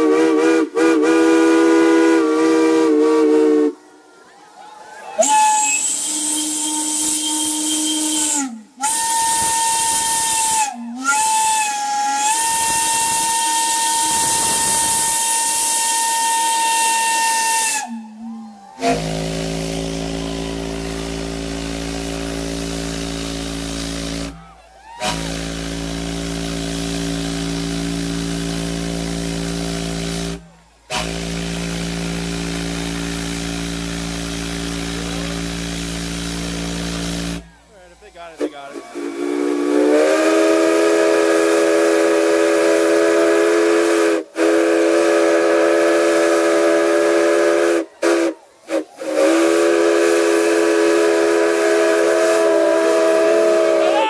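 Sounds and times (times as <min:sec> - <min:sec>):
deep chime steam whistle: 0:00.0 - 0:04.0, 0:04.7 - 0:37.5, 0:38.3 - 0:54.0
high steam whistle blasts: 0:00.0 - 0:37.6, 0:38.3 - 0:54.0
steam hissing: 0:05.1 - 0:54.0.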